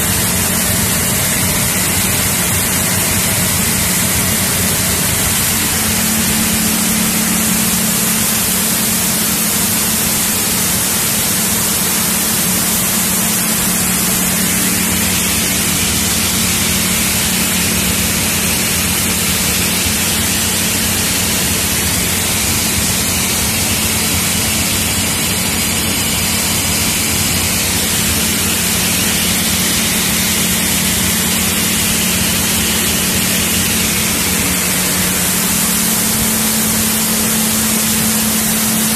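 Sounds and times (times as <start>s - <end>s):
machinery low hum: 0.0s - 38.9s.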